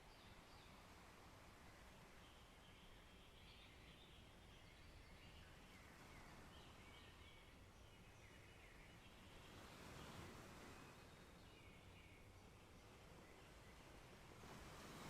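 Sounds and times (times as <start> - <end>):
faint birds chirping: 0.0 - 15.0
soft forest hiss: 0.0 - 15.0.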